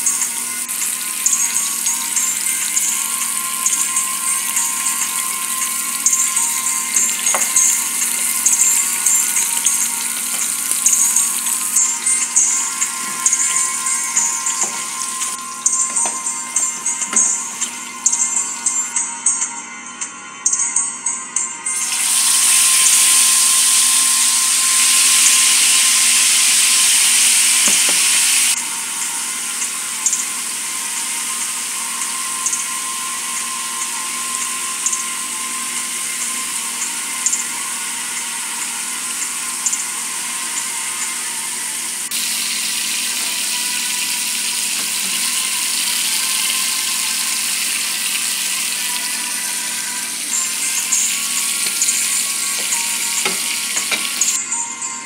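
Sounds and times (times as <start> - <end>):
chicken frying in hot oil: 0.0 - 19.0, 21.7 - 54.4.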